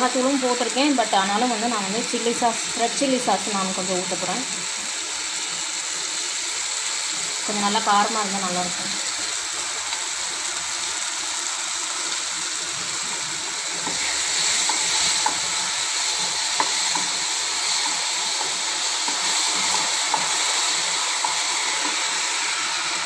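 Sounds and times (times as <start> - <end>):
sauce sizzling in a pan: 0.0 - 23.0.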